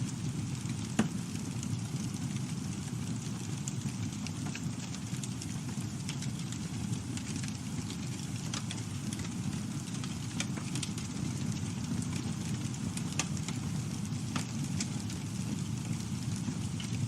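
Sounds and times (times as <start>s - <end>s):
flames rumbling: 0.0s - 17.0s
wood crackling and popping: 0.0s - 17.0s.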